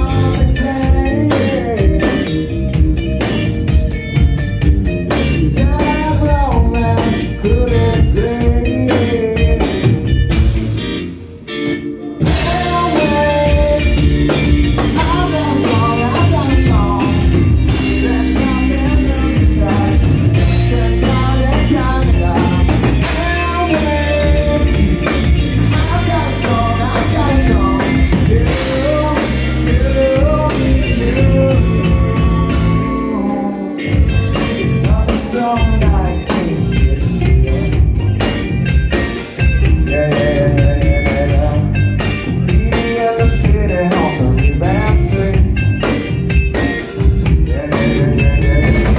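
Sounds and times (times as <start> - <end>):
person singing: 0.0 - 2.9, 5.1 - 10.3, 12.0 - 38.4, 39.2 - 48.9
bass guitar: 0.0 - 48.9
drum kit: 0.0 - 48.9
electric guitar: 0.0 - 48.9.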